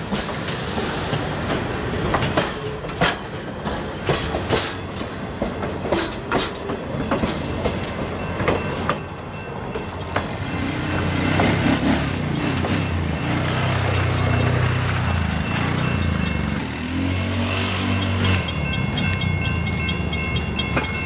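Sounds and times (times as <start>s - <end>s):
train rumble: 0.0s - 21.0s
train wheels clicking over rail joints: 0.0s - 21.0s.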